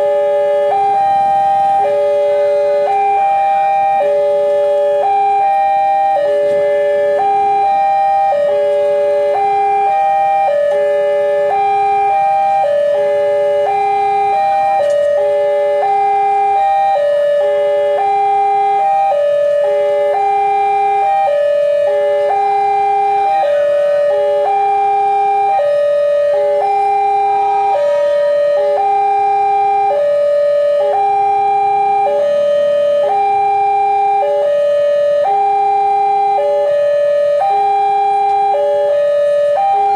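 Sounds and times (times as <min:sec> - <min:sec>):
level-crossing warning alarm tones: 0:00.0 - 0:39.9.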